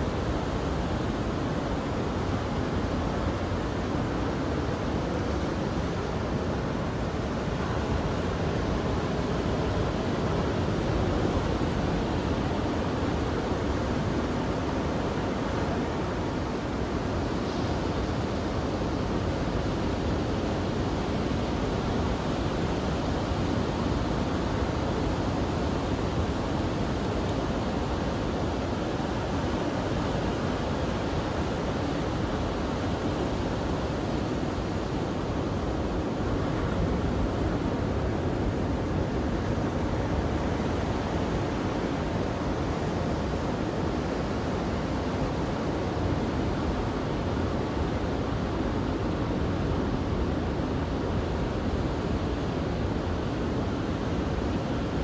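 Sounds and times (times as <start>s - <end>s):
surf breaking on a beach: 0.0s - 55.0s.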